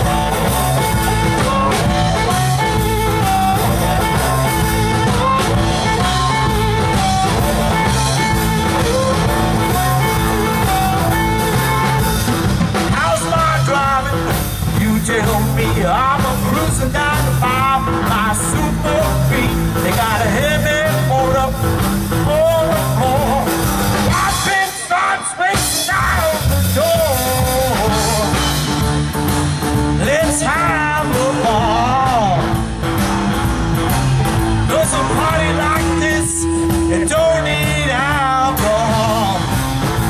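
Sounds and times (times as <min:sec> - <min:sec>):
man singing: 0:00.0 - 0:28.9, 0:29.9 - 0:32.8, 0:34.6 - 0:40.0
live rock band playing: 0:00.0 - 0:40.0.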